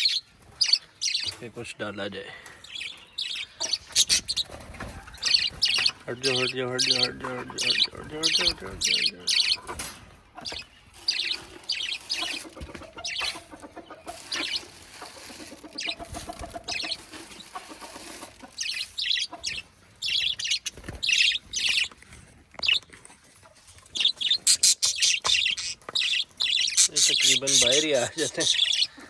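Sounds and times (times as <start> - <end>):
parrots chirping: 0.0 - 29.0
hens clucking: 0.3 - 29.0.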